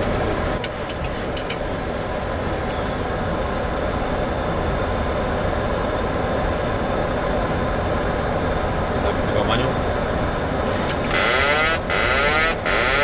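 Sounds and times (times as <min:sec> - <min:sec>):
air rushing past cockpit: 0:00.0 - 0:12.8.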